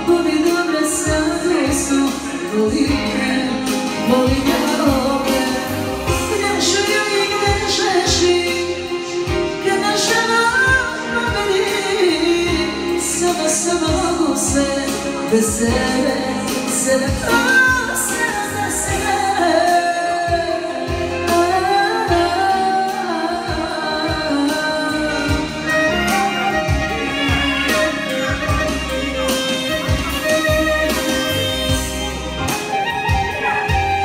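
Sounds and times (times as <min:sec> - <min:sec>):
musical accompaniment with beat: 0:00.0 - 0:34.0
woman singing into microphone: 0:00.0 - 0:34.0.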